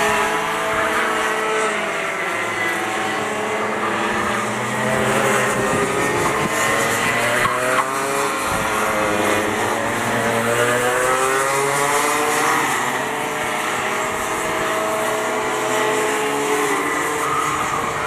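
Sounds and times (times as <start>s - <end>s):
kart engines racing: 0.0s - 18.0s.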